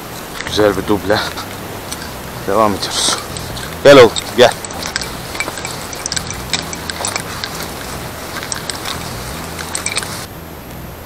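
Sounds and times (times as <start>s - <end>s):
footsteps on gravel: 0.0s - 10.3s.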